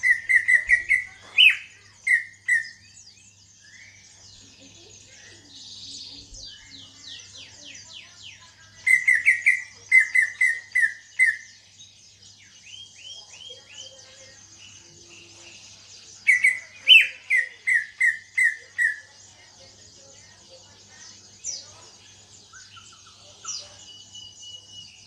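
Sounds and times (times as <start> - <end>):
bird whistling song: 0.0 - 4.4, 5.5 - 19.1, 22.4 - 25.0.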